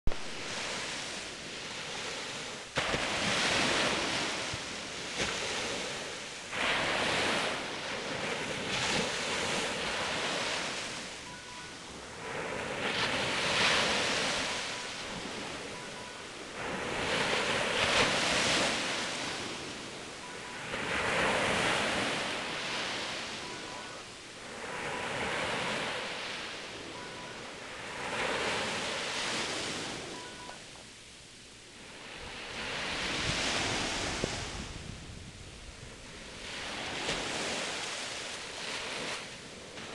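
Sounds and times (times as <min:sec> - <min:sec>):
waves breaking on beach: 0:00.1 - 0:39.9.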